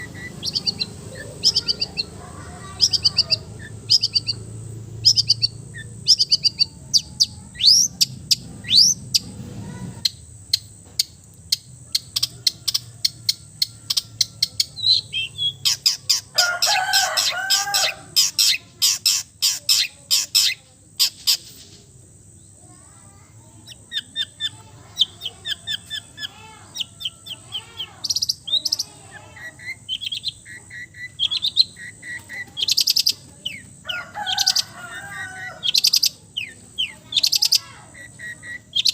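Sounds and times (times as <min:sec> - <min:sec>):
bird singing chirps and trills: 0:00.0 - 0:21.6, 0:22.4 - 0:38.9.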